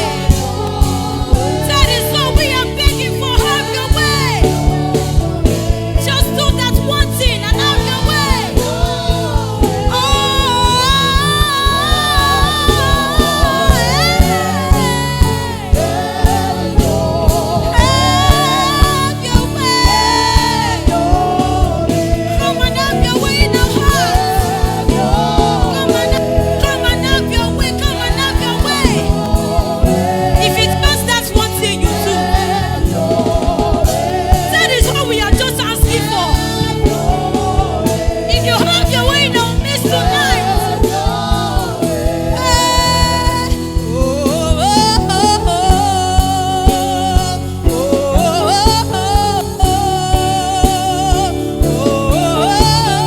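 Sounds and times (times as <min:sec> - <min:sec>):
gospel singers with band: 0:00.0 - 0:53.0
steady drum beat: 0:00.0 - 0:53.0.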